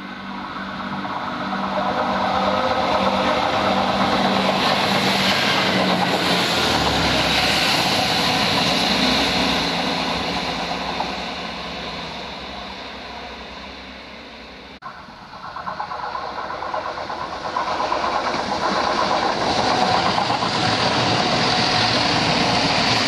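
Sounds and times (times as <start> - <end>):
diesel engine drone: 0.0 - 23.0
train wheels rushing on rails: 0.0 - 23.0.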